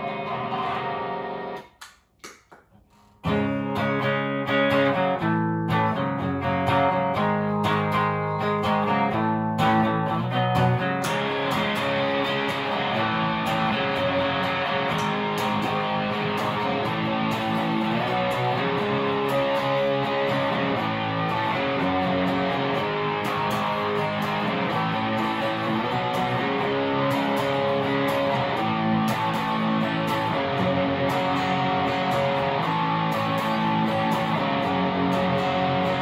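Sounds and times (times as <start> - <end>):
distorted electric guitar: 0.0 - 1.8, 3.2 - 36.0.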